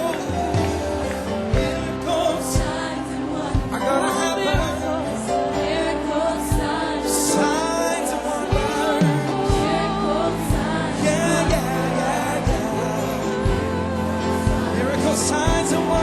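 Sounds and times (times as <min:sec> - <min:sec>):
drum beats: 0:00.0 - 0:05.7, 0:06.5 - 0:07.5, 0:08.5 - 0:16.0
people singing: 0:00.0 - 0:16.0
sustained keyboard chords: 0:00.0 - 0:16.0.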